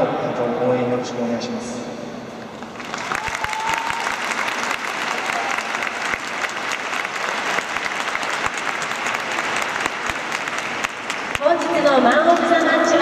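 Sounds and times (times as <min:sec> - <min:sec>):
stadium crowd applauding: 0:02.6 - 0:13.0.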